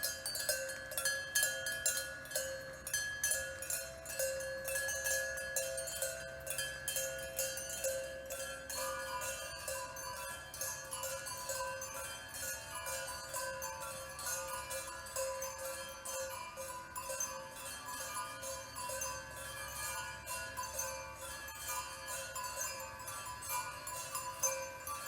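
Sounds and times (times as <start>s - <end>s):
bells jingling and chiming: 0.0s - 25.0s.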